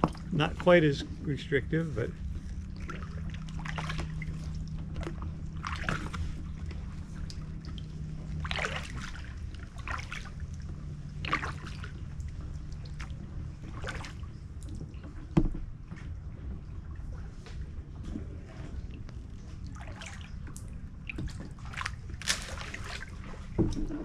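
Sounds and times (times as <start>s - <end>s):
paddle splashing in water: 2.1s - 24.0s.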